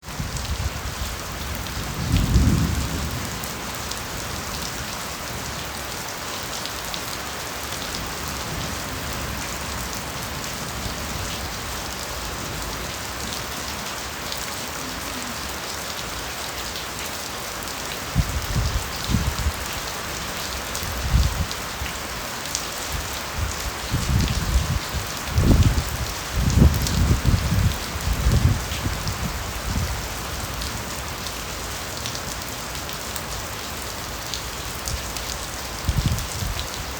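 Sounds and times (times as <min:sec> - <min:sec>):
rain pattering on leaves: 0:00.0 - 0:36.9.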